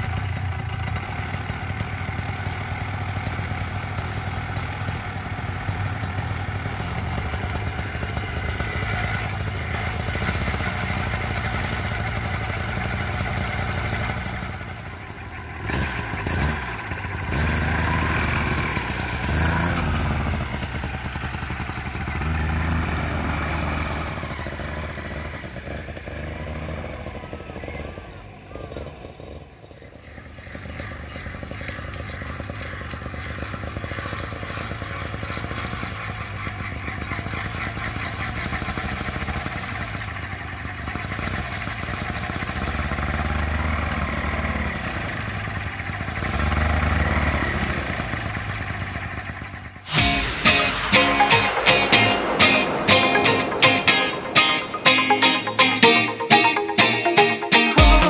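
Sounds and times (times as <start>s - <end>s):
two-stroke engine revving: 0.0s - 50.5s.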